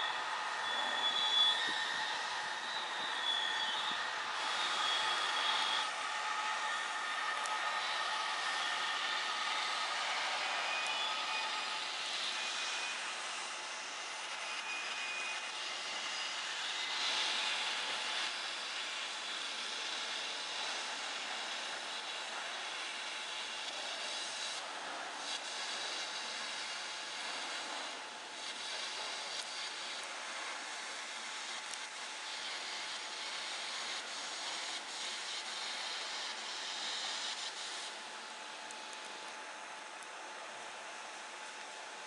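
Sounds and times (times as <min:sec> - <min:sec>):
welding arc hissing: 0:00.0 - 0:39.3.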